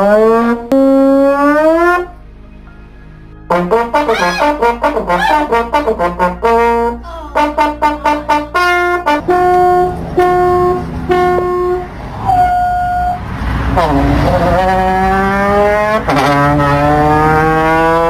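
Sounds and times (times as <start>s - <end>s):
brass music: 0.0s - 18.0s.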